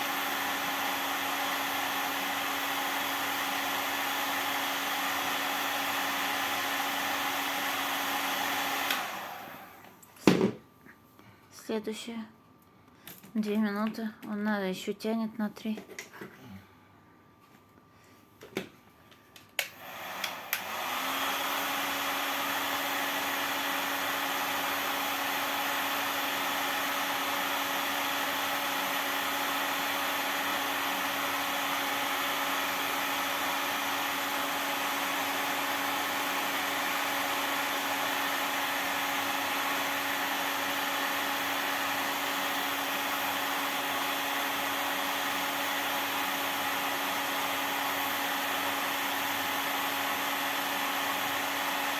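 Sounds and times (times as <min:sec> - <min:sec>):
hot-air blower running: 0:00.0 - 0:10.6, 0:19.6 - 0:51.9.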